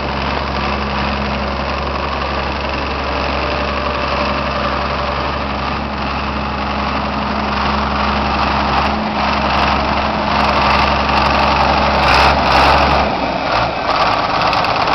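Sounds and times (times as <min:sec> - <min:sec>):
tractor diesel engine idling: 0:00.0 - 0:14.9.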